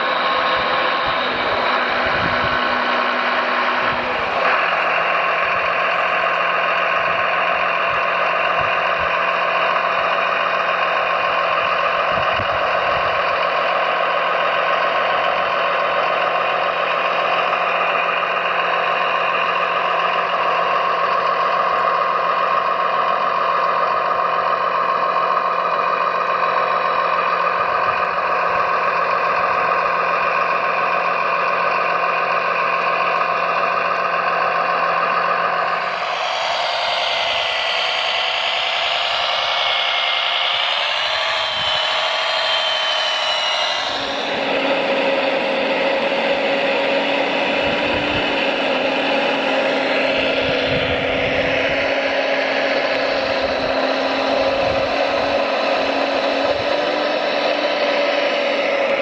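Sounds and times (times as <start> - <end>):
mechanical drone with whine: 0.0 - 59.0.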